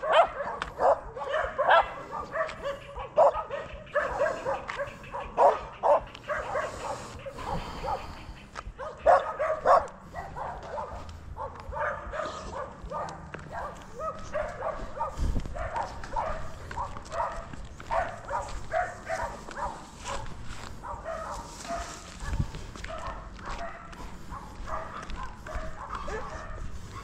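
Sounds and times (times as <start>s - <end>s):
dogs barking: 0.0s - 27.0s.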